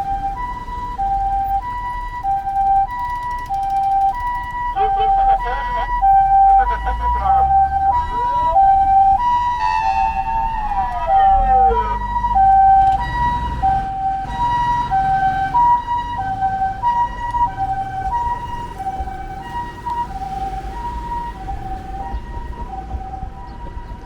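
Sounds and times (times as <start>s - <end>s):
two-tone ambulance siren: 0.0s - 24.0s
low vehicle rumble: 4.1s - 24.0s.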